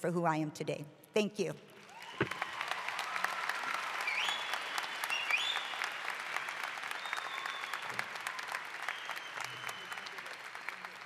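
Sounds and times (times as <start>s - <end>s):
crowd applauding and cheering: 1.7s - 11.0s.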